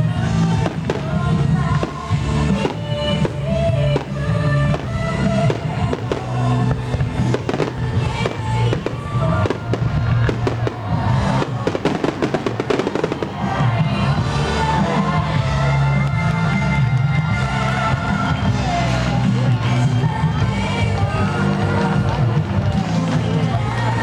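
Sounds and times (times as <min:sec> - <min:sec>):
firework bursts and crackles: 0:00.0 - 0:24.0
music playing: 0:00.0 - 0:24.0.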